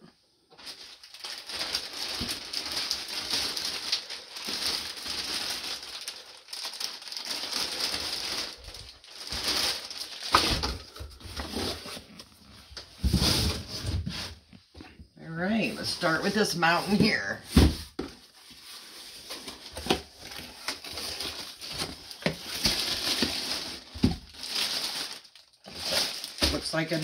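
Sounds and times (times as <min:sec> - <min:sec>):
packaging and coat rustling: 0:00.5 - 0:14.7, 0:15.6 - 0:27.0.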